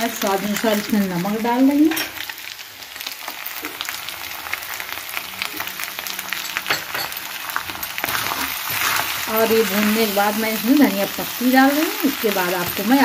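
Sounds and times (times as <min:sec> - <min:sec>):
potato filling sizzling in oil: 0:00.0 - 0:13.0.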